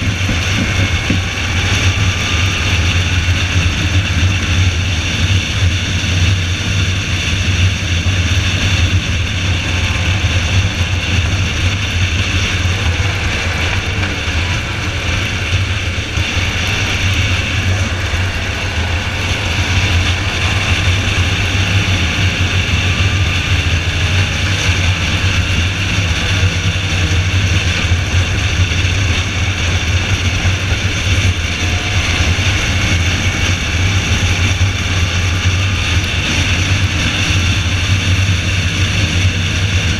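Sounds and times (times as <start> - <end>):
car engine and road drone: 0.0 - 39.9.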